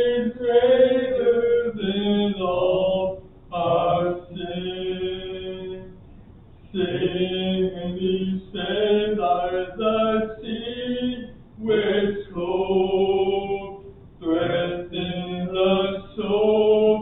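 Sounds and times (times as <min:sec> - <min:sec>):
voices singing a hymn: 0:00.0 - 0:06.1, 0:06.7 - 0:17.0.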